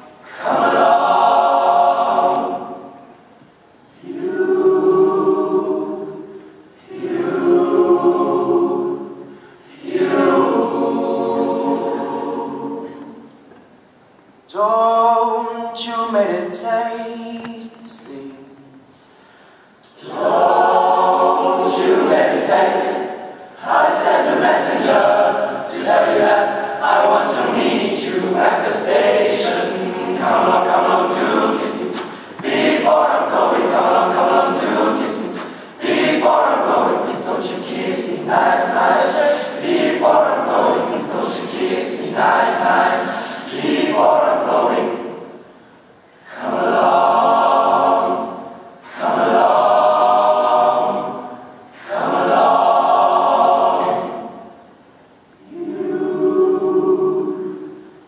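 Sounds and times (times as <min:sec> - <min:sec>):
boys' choir singing: 0:00.0 - 0:03.2, 0:04.0 - 0:13.3, 0:20.0 - 0:45.5, 0:46.2 - 0:54.8, 0:55.4 - 0:58.0.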